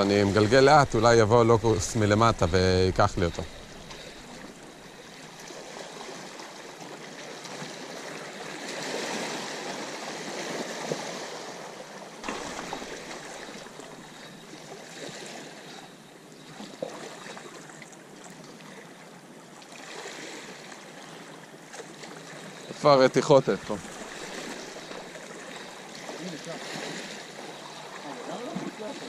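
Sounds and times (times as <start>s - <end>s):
water splashes: 0.0s - 29.0s
waves sloshing against rocks: 0.0s - 29.0s.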